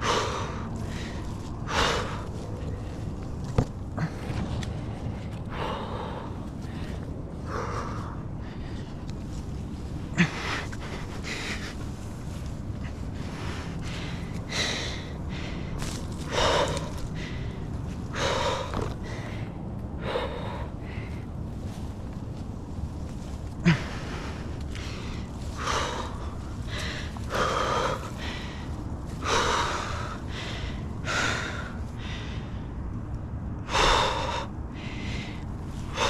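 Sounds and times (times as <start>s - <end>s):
heavy breathing gasps: 0.0s - 9.1s, 10.0s - 21.9s, 23.5s - 36.0s
steady low rumble: 0.0s - 36.0s.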